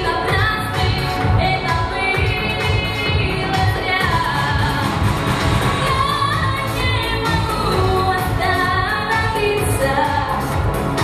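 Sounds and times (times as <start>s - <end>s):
pop backing track with beat: 0.0s - 11.0s
woman singing: 0.0s - 11.0s.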